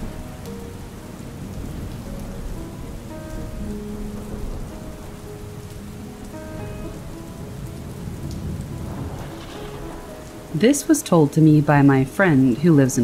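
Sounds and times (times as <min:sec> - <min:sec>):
soft slow music notes: 0:00.0 - 0:12.7
steady rain falling: 0:00.0 - 0:13.0.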